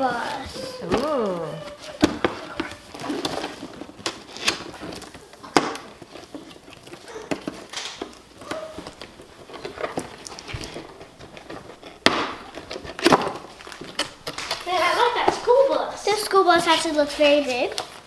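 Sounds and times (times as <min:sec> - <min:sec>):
cardboard and plastic rustling: 0:00.0 - 0:18.0.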